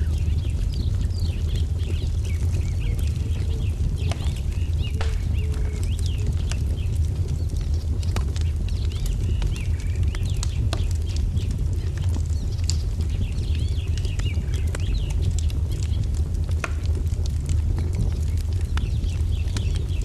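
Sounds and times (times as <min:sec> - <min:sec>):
low rumble: 0:00.0 - 0:20.0
small birds chirping: 0:00.0 - 0:20.0
wood fire crackling: 0:00.0 - 0:20.0.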